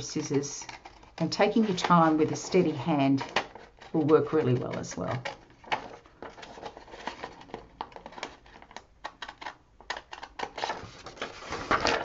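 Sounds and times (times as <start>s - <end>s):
paper crackling: 0.0s - 12.0s.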